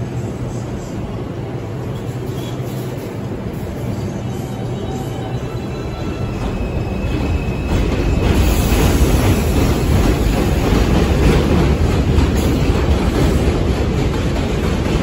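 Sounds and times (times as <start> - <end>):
train rumbling on elevated track: 0.0 - 15.0.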